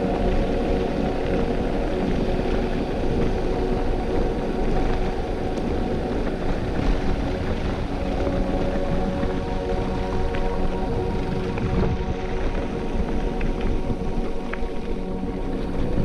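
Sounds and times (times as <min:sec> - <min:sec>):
steady hum: 0:00.0 - 0:16.0
wind on microphone: 0:00.0 - 0:16.0.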